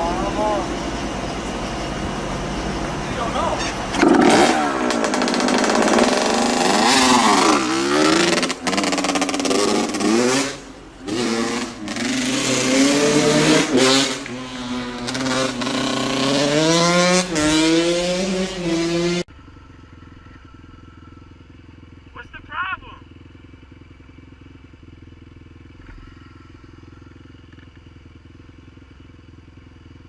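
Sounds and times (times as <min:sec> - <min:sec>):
dirt bike engines revving: 0:00.0 - 0:29.3.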